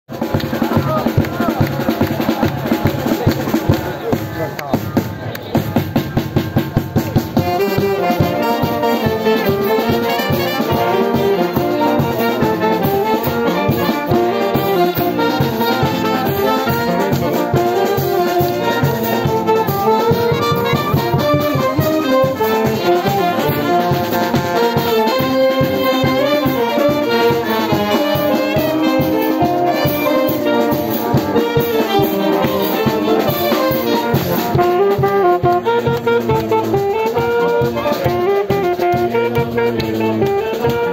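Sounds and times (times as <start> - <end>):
brass band playing: 0.1 - 40.9
snare and bass drum beat: 0.1 - 40.9.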